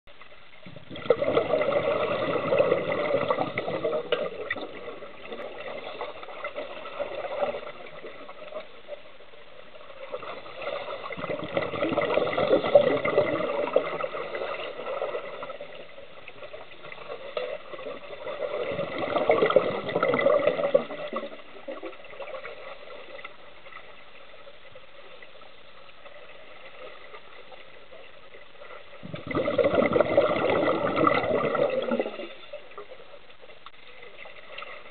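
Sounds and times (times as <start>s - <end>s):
underwater regulator bubbles: 0.1s - 9.1s, 9.7s - 23.9s, 26.0s - 34.9s
faint steady hiss: 0.1s - 34.9s.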